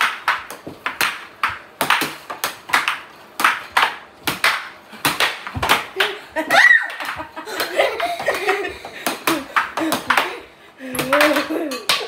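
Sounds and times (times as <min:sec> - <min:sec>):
air hockey puck and mallets clacking: 0:00.0 - 0:12.0.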